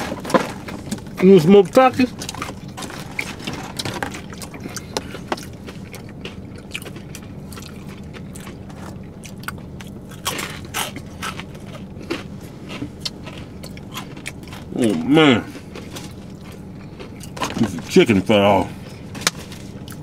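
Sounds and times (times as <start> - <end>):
chewing and crunching food: 0.0 - 20.0
steady low hum: 0.0 - 20.0.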